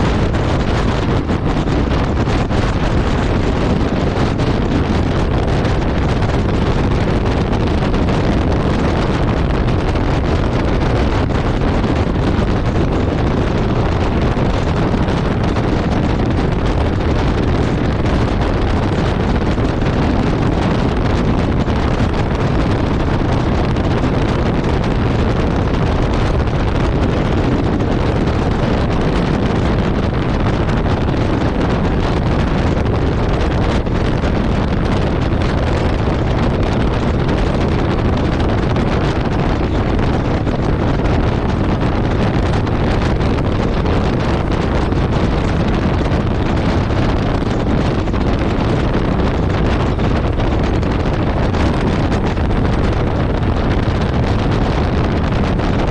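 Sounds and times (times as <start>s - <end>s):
motorcycle engine and tyre noise: 0.0s - 55.9s
wind buffeting microphone: 0.0s - 55.9s.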